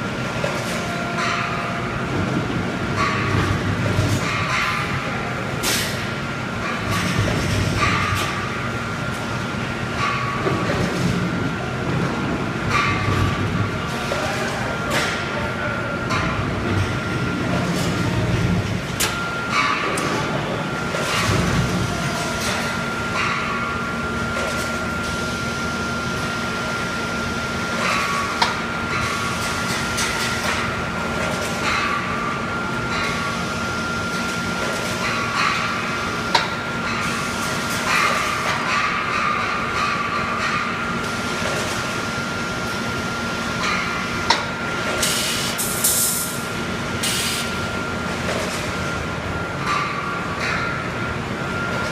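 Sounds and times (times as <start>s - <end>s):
machine hum with thin whine: 0.0s - 51.9s.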